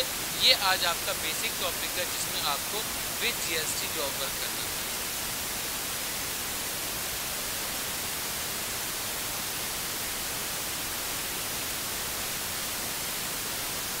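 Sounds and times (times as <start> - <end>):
microphone noise hiss: 0.0 - 14.0.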